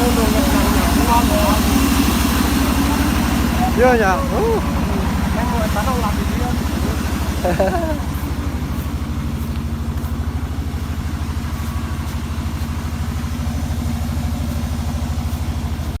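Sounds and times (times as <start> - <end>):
engine idling with chugging beat: 0.0 - 16.0.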